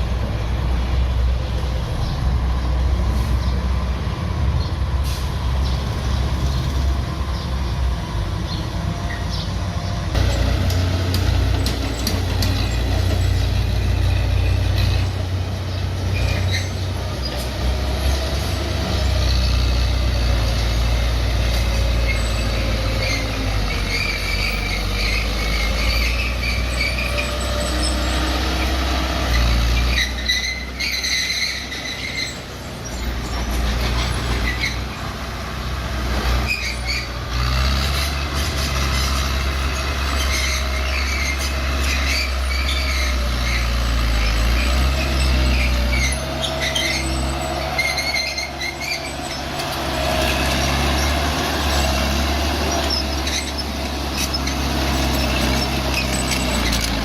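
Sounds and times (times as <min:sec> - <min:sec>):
bulldozer diesel engine running: 0:00.0 - 0:57.0
steel tracks squealing: 0:08.5 - 0:35.2, 0:36.0 - 0:57.0.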